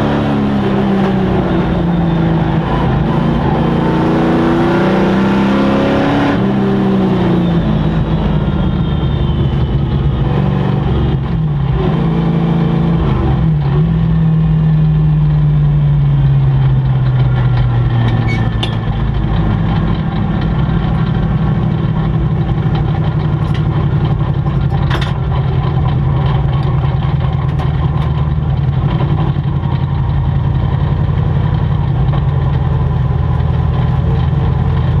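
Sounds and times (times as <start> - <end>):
race engine slowing: 0.0 - 35.0.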